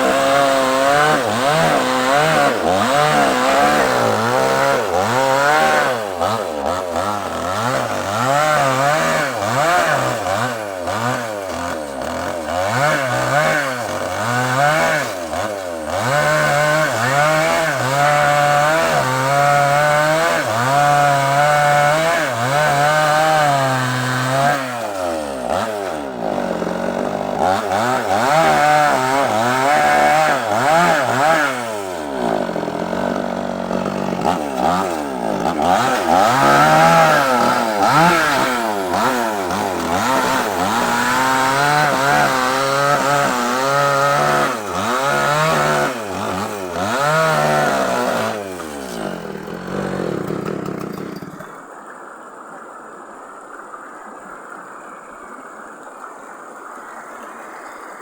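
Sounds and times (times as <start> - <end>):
chainsaw cutting log: 0.0 - 51.7.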